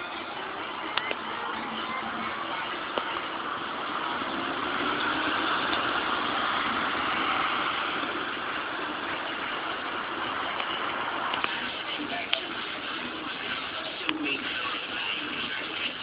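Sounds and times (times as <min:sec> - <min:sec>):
street traffic hiss: 0:00.0 - 0:16.0.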